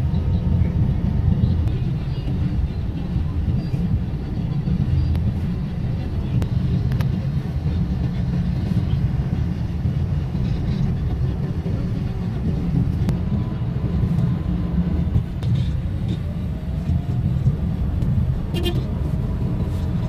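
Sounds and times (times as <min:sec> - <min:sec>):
road and engine rumble inside car: 0:00.0 - 0:20.0.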